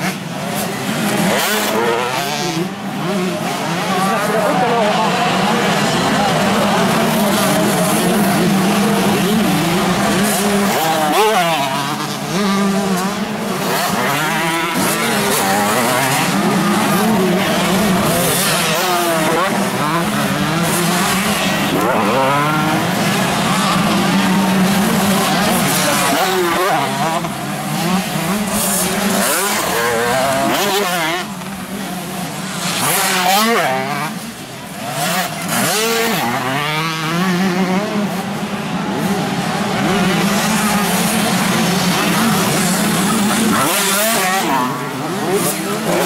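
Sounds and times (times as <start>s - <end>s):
motocross bikes revving: 0.0s - 46.0s.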